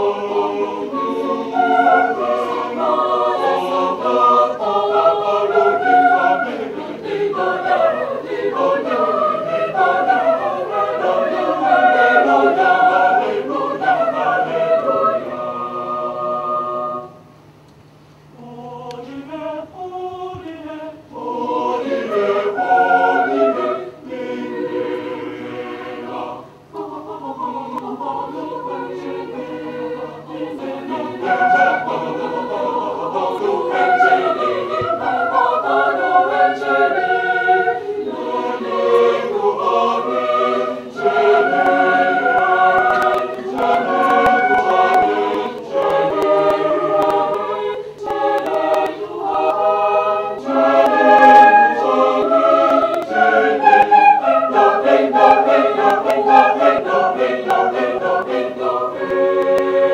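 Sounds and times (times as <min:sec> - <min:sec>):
mixed choir singing unaccompanied: 0:00.0 - 0:17.3, 0:18.4 - 0:59.9.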